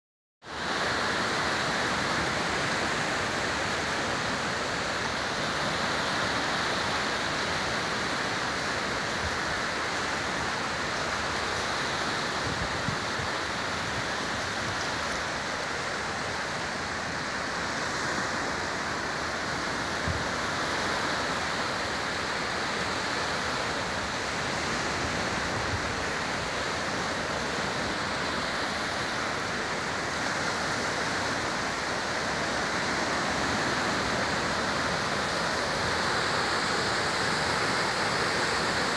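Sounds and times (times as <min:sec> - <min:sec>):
sea waves washing onto beach: 0:00.4 - 0:38.9.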